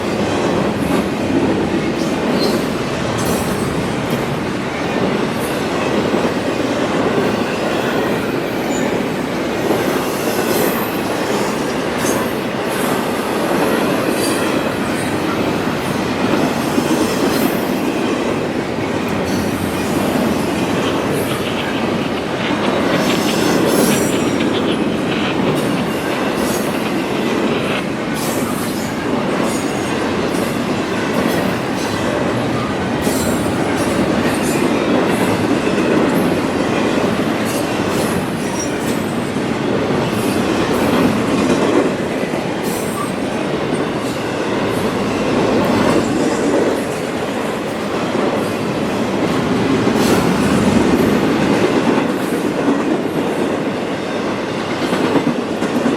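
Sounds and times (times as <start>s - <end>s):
freight train wheels rumbling on rail: 0.0s - 55.9s.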